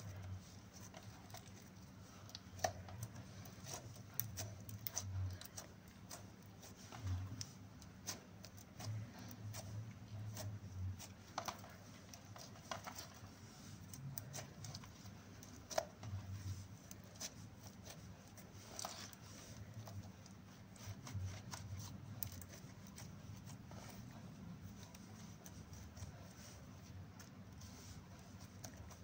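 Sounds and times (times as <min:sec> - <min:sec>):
sticky slime squishing: 0:00.0 - 0:29.0.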